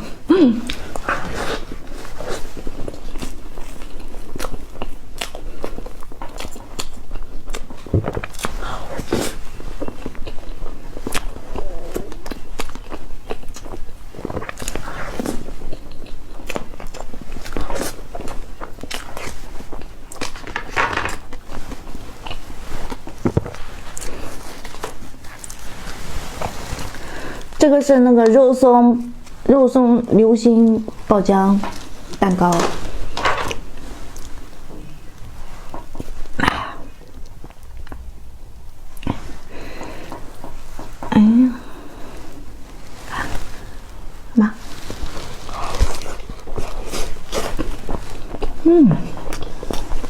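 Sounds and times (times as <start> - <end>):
close-miked chewing: 0.0 - 29.5, 30.5 - 50.0.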